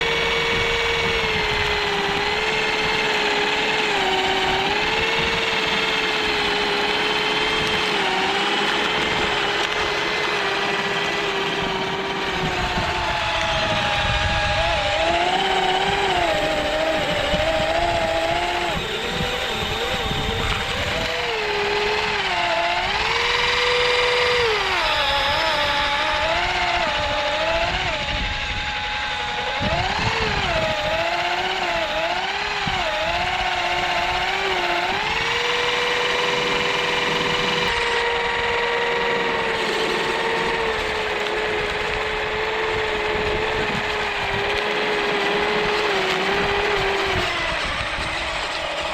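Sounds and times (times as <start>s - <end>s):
electric motors whining: 0.0s - 48.9s.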